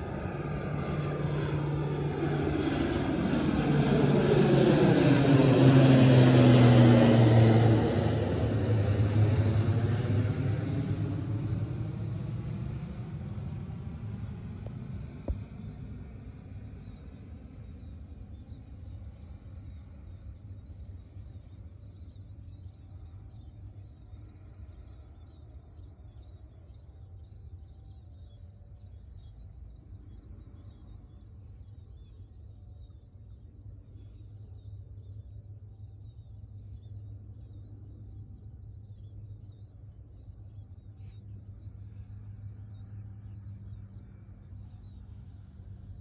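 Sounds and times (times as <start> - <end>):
distant turboprop aircraft drone: 0.0 - 46.0.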